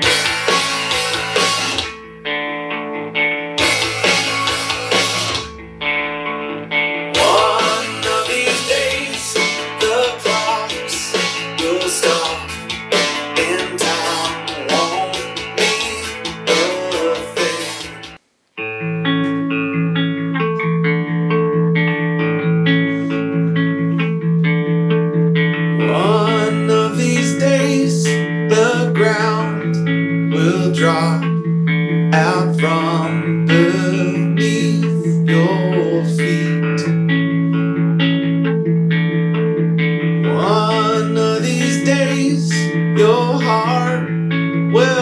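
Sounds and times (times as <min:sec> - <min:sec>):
high electric guitar lines: 0:00.0 - 0:45.0
rock song through a speaker: 0:00.0 - 0:45.0.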